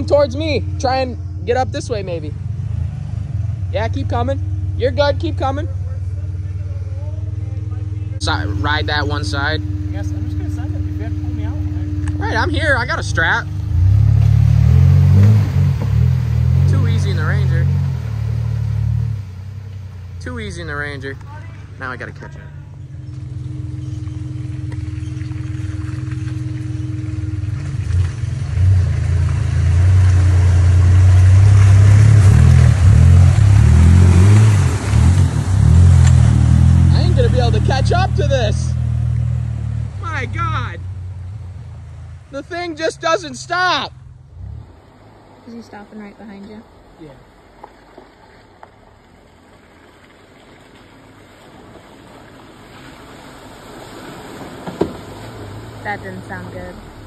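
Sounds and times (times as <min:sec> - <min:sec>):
pickup truck engine revving: 0:00.0 - 0:45.7.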